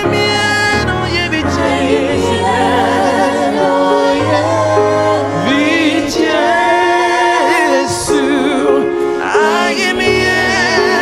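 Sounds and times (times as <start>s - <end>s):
voices singing with vibrato: 0.0s - 11.0s.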